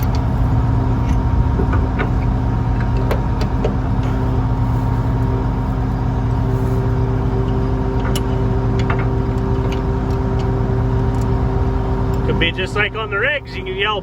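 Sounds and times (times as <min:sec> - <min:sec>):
engine droning steadily: 0:00.0 - 0:14.0.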